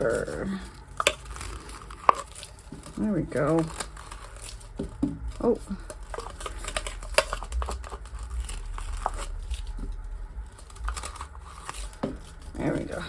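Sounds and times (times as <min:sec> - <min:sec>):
scraper scraping mixing cup: 0:00.0 - 0:13.0.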